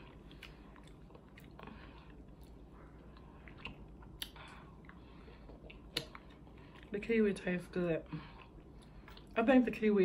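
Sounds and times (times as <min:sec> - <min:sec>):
people chewing fruit: 0:00.0 - 0:07.1, 0:08.0 - 0:09.4.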